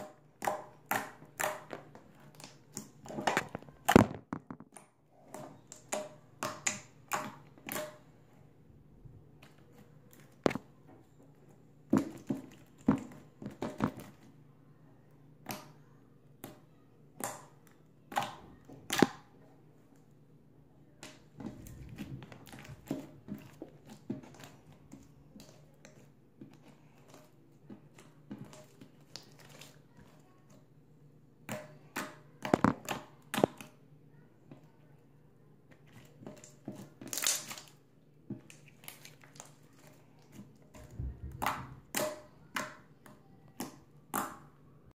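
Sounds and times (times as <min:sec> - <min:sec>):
slime squishing: 0:00.0 - 0:14.4, 0:20.9 - 0:35.0, 0:35.6 - 0:44.8.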